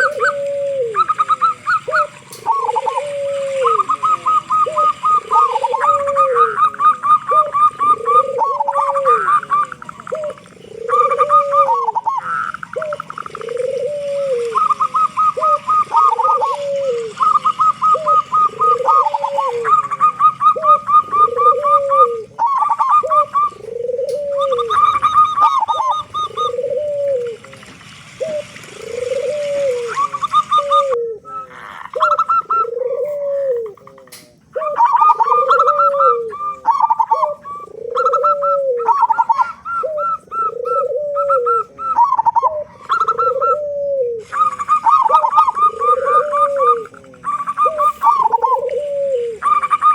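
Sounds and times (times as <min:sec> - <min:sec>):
dove cooing: 0:00.0 - 0:49.9
high stuttering bird notes: 0:00.0 - 0:49.9.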